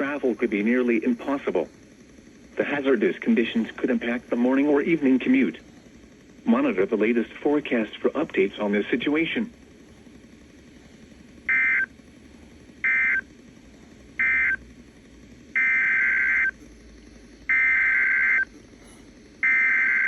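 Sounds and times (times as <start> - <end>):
buzzy digital data bursts: 0.0 - 20.0.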